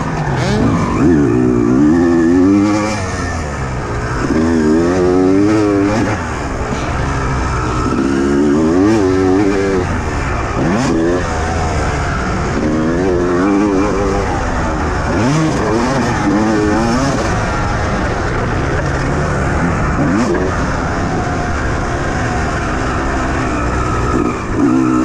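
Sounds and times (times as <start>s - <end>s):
motocross bike engine revving: 0.0s - 25.0s
wind and ground noise: 0.0s - 25.0s.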